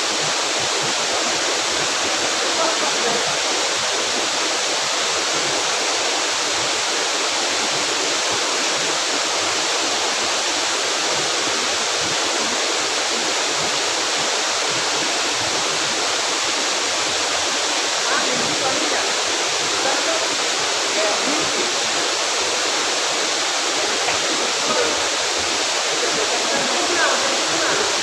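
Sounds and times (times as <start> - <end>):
waterfall pouring and splashing: 0.0 - 28.0.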